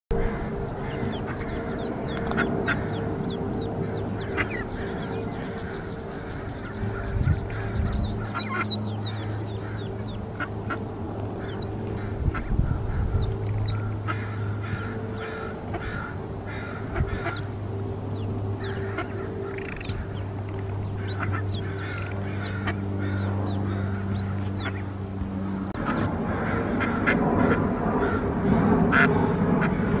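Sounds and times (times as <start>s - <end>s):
ducklings peeping: 0.1s - 30.0s
steady low hum: 0.1s - 30.0s.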